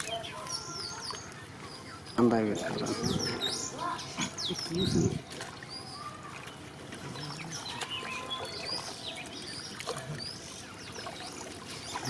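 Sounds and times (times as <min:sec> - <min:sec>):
small birds chirping: 0:00.0 - 0:12.0
water sloshing: 0:00.0 - 0:12.0.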